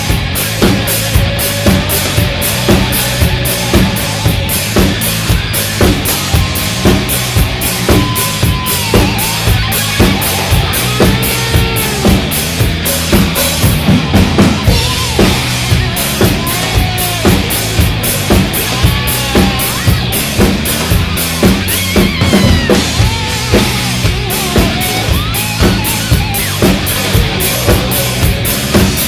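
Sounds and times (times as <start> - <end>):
bass drum: 0.0 - 29.0
drum kit playing rock beat: 0.0 - 29.0
rock band track with guitar: 0.0 - 29.0.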